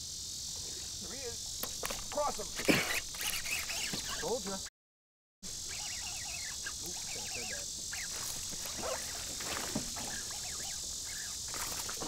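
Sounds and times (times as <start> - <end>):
high-pitched insect drone: 0.0 - 4.7, 5.4 - 12.0.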